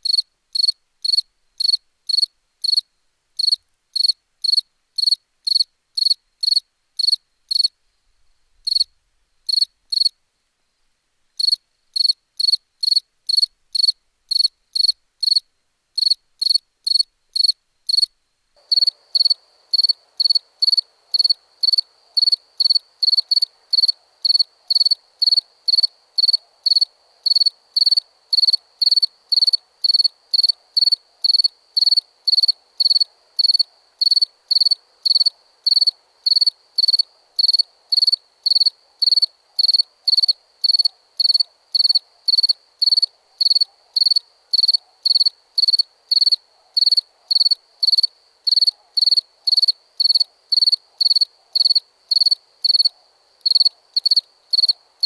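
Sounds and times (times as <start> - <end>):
cricket chirping: 0.0 - 7.8, 8.6 - 10.2, 11.4 - 55.0
soft hiss: 0.0 - 44.6.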